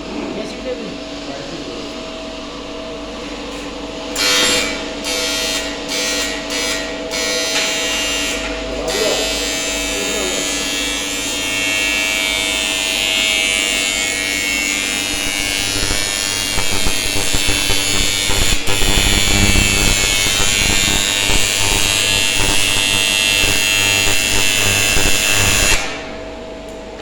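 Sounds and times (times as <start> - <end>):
welding arc buzzing: 2.1 - 26.4.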